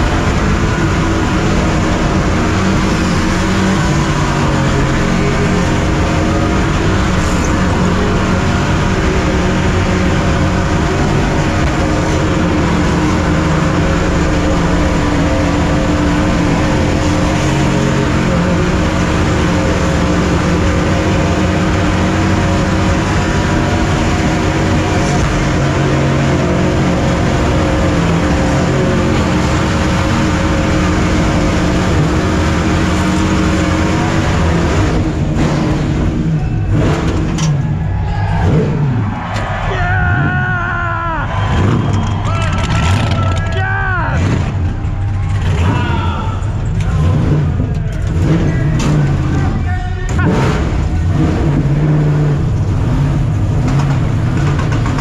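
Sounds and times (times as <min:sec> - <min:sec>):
car engine at high revs: 0:00.0 - 0:55.0.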